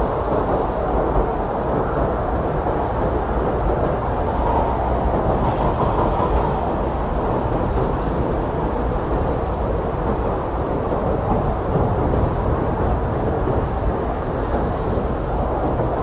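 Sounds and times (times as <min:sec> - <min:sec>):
blizzard wind rushing: 0:00.0 - 0:16.0
faint wind howl: 0:00.0 - 0:16.0.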